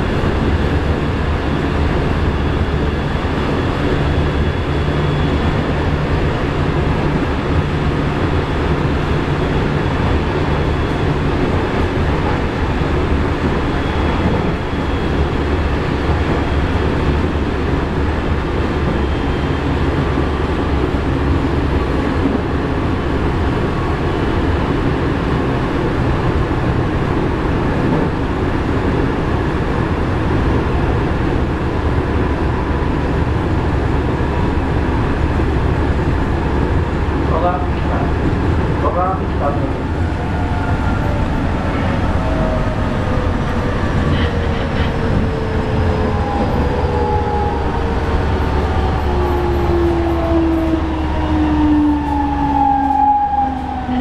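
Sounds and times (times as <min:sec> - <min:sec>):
train wheels and bogie rumbling: 0:00.0 - 0:54.0.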